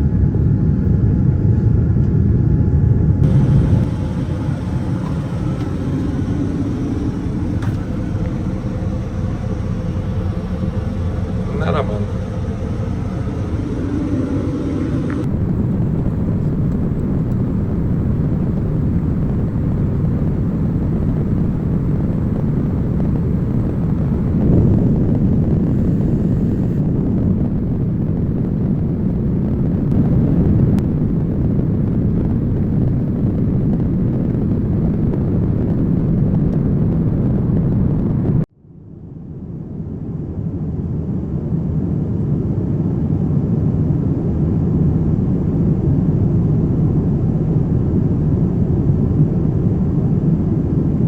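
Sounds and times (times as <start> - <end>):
airliner cabin engine noise: 0.0 - 51.0.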